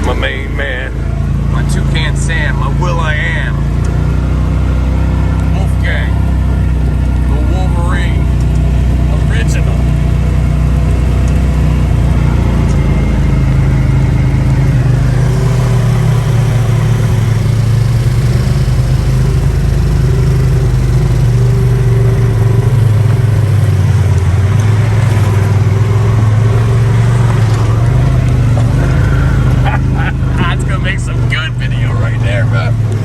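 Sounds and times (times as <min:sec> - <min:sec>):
loud engine running under load: 0:00.0 - 0:33.0.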